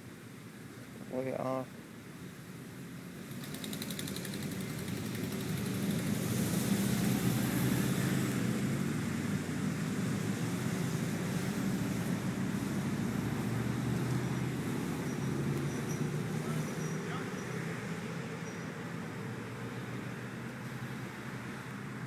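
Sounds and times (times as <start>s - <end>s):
vehicle engine running: 3.2s - 22.0s.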